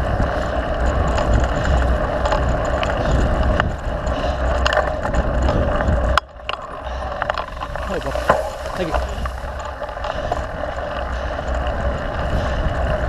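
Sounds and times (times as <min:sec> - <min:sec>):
bike rattling: 0:00.0 - 0:13.0
wind rumbling on microphone: 0:00.0 - 0:13.0.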